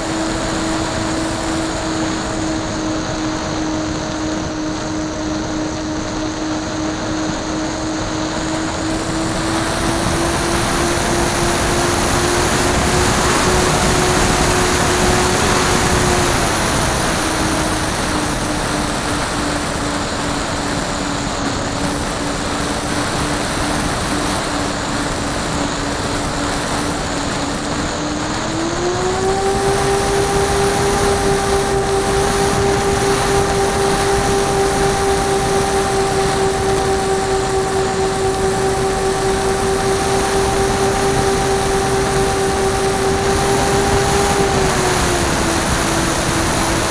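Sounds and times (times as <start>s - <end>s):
model airplane motor droning: 0.0s - 46.9s.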